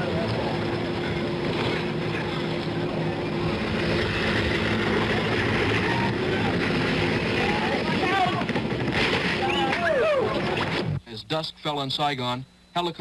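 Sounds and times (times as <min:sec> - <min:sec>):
engine humming: 0:00.0 - 0:11.0
rushing noise: 0:00.0 - 0:11.0.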